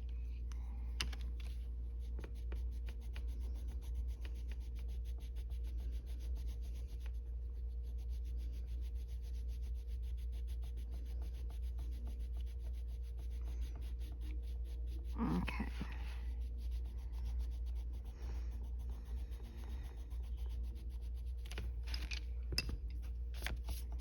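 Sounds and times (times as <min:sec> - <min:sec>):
colored pencil rubbing on paper: 0:01.0 - 0:22.2, 0:23.0 - 0:24.0.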